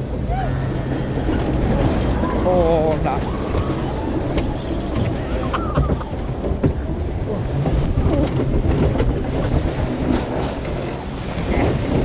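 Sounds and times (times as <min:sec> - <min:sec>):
boat rumbling and clattering on track: 0:00.0 - 0:12.0.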